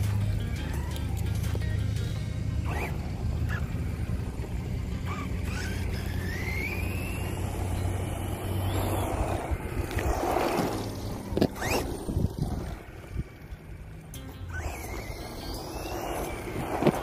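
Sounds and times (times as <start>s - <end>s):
wheels rushing over pavement: 0.0s - 17.0s
electric motor whining: 2.4s - 17.0s.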